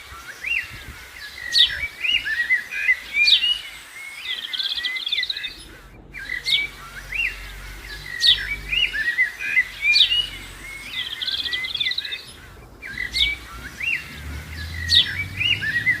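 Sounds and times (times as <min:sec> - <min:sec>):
birdsong whistles chirps and trills: 0:00.0 - 0:16.0.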